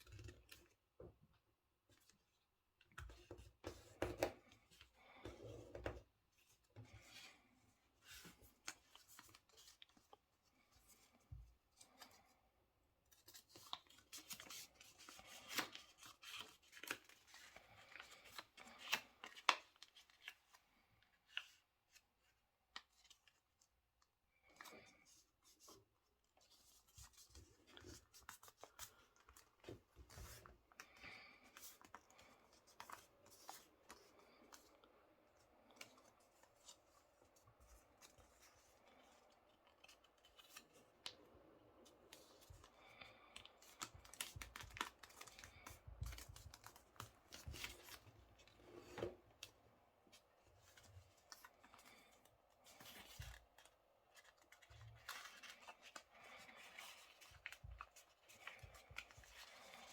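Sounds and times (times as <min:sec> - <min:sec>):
paper folding and crinkling: 0:00.0 - 0:01.0, 0:01.9 - 0:12.4, 0:13.0 - 0:59.9.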